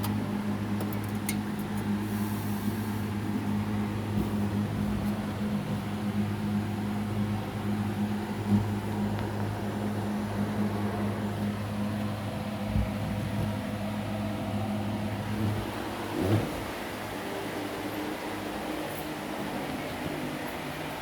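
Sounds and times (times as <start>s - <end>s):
refrigerator humming: 0.0s - 21.0s.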